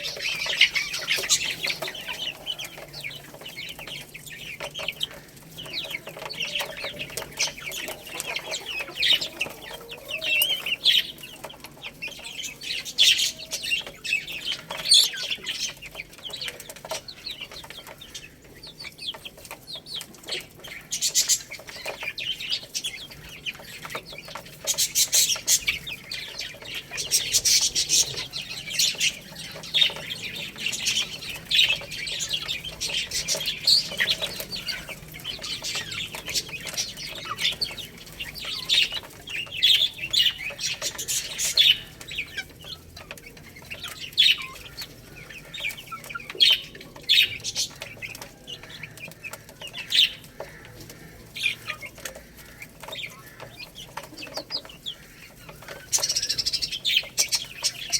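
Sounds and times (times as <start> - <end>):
baby chicks peeping: 0.0 - 57.9.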